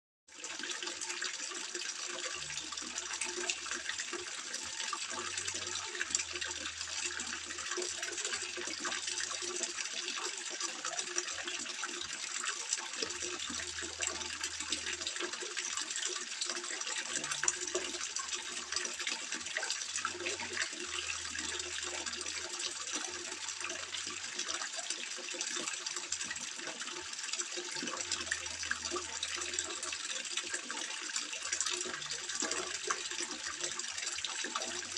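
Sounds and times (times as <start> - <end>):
water trickling into pond: 0.3 - 34.9.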